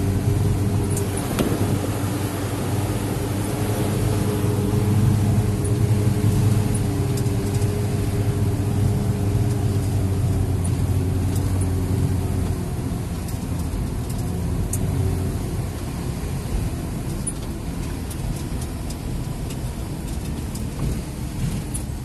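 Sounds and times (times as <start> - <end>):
tyre and road noise: 0.0 - 22.0
vehicle engine running: 0.0 - 22.0.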